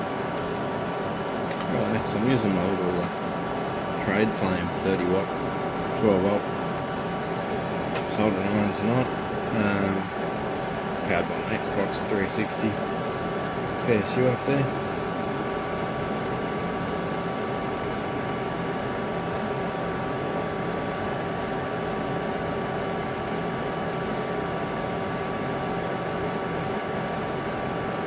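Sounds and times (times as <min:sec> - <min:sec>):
cooling fan whirring hum: 0:00.0 - 0:28.0.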